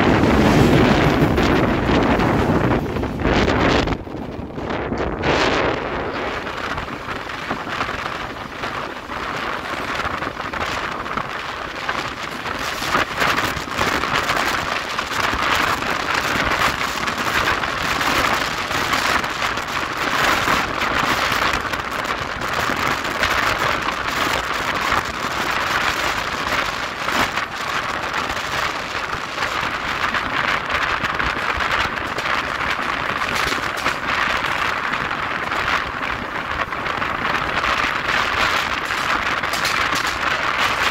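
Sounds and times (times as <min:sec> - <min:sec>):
train wheels on rails: 0:00.0 - 0:40.9
wind buffeting microphone: 0:00.0 - 0:40.9.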